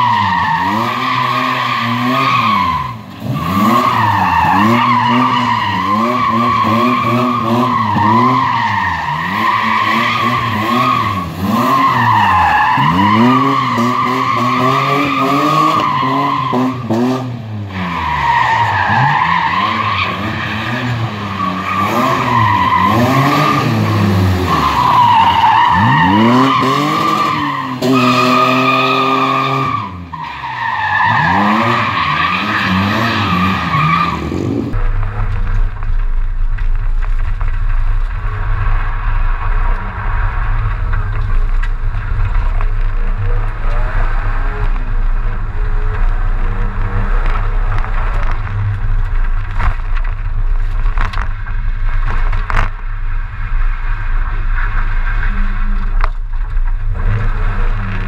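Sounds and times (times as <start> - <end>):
race car engine revving: 0.0 - 35.9, 38.1 - 58.0.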